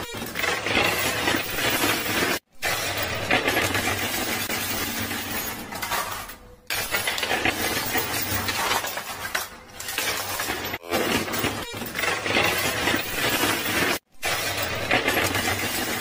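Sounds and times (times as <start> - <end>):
chips and coins clattering: 0.0 - 16.0.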